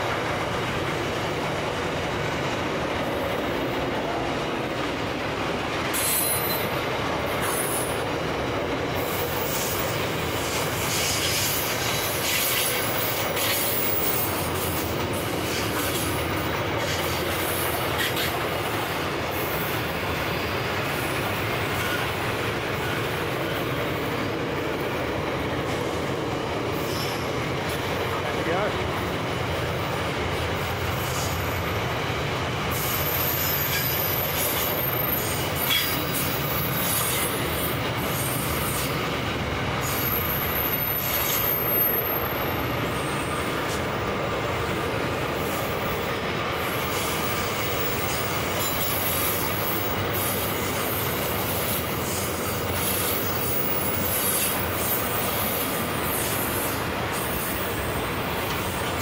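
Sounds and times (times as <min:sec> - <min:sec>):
freight train rolling past: 0:00.0 - 0:59.0
steel wheels clattering on rails: 0:00.0 - 0:59.0.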